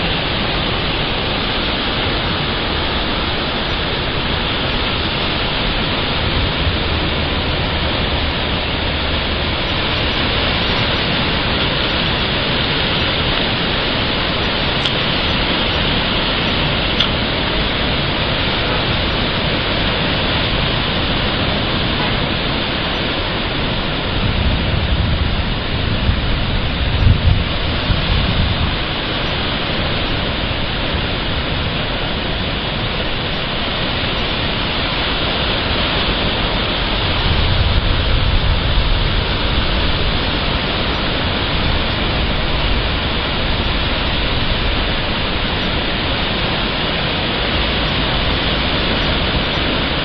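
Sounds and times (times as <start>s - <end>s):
heavy rain hissing: 0.0s - 50.0s.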